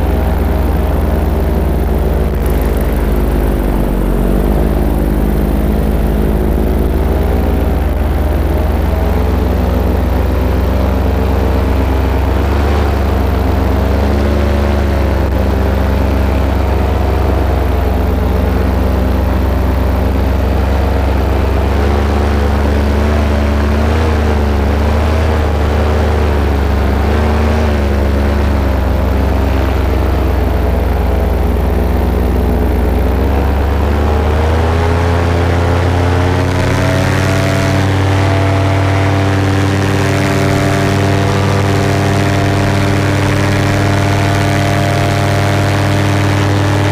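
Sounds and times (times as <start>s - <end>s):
paramotor engine and propeller: 0.0s - 46.9s.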